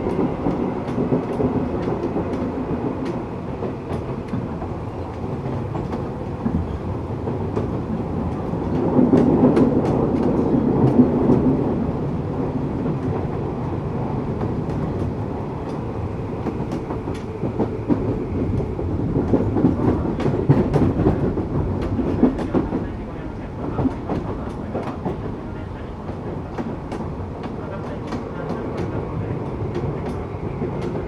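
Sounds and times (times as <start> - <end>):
train rolling rumble: 0.0 - 31.0
wheels clicking on track: 0.0 - 31.0.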